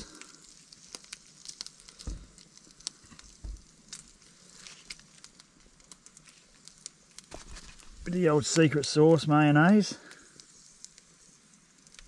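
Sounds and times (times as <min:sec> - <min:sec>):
fire crackling and popping: 0:00.0 - 0:12.0
soft hiss: 0:00.0 - 0:12.0.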